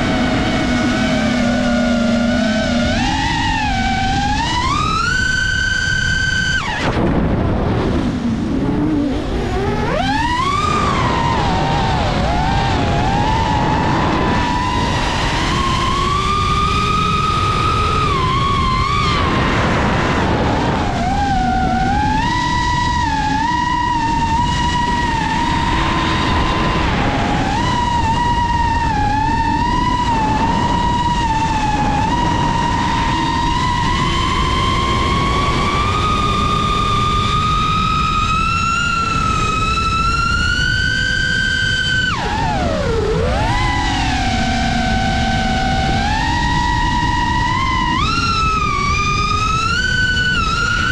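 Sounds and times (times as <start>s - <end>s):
drone motors whining: 0.0s - 50.9s
wind rush: 0.0s - 50.9s.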